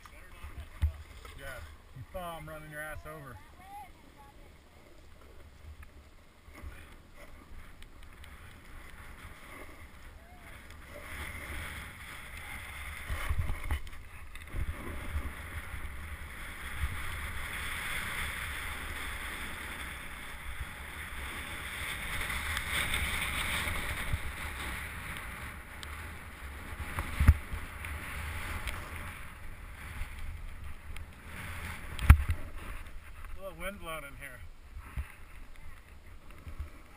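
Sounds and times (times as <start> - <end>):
snowboard carving on snow: 6.4 - 36.9.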